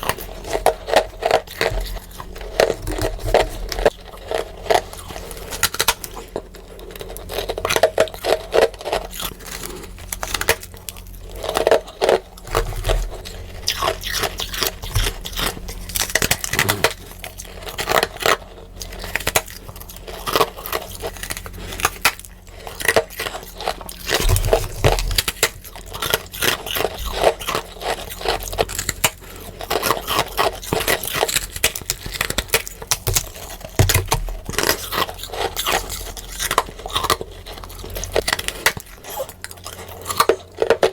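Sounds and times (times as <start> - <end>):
frost crunching when chewed: 0.0 - 40.9.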